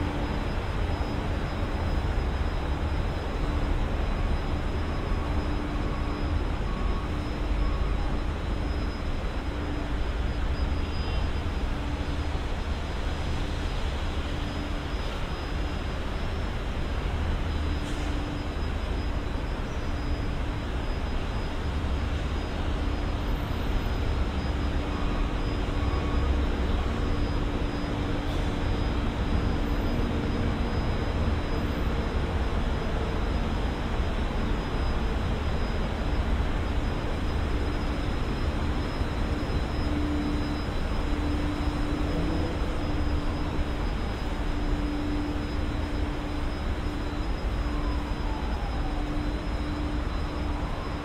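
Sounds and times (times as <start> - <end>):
faint steady hum: 0.0 - 51.0
road traffic rumble: 0.0 - 51.0.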